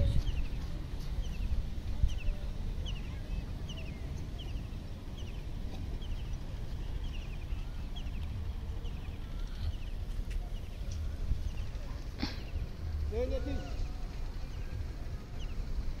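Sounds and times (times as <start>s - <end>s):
bird chirping: 0.0s - 16.0s
steady low rumble: 0.0s - 16.0s.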